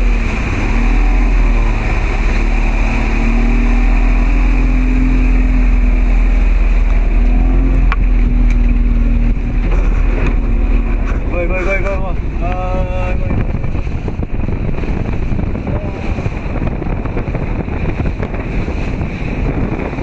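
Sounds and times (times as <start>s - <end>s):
motorboat engine droning: 0.0s - 20.0s
rushing wind: 0.0s - 20.0s
water noise: 0.0s - 20.0s.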